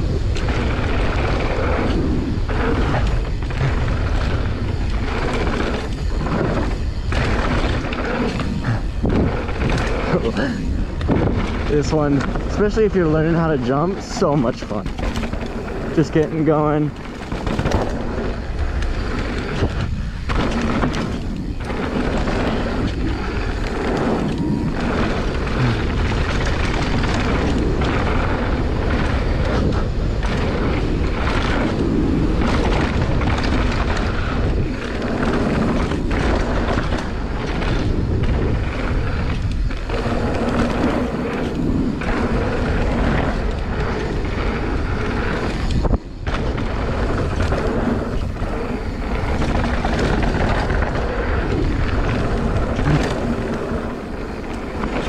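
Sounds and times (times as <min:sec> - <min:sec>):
bike tyres rolling over dirt: 0:00.0 - 0:55.0
wind on microphone: 0:00.0 - 0:55.0.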